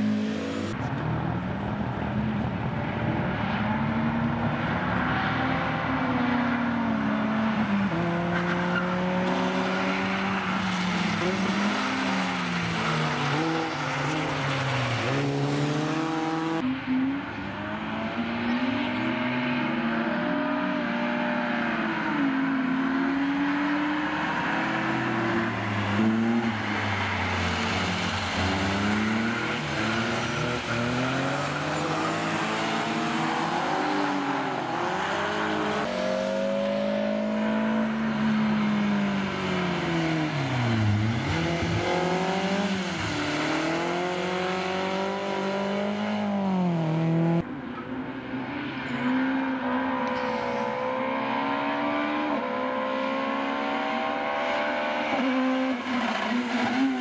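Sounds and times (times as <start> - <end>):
cars passing: 0.0 - 57.0
rally car engines revving: 0.0 - 57.0.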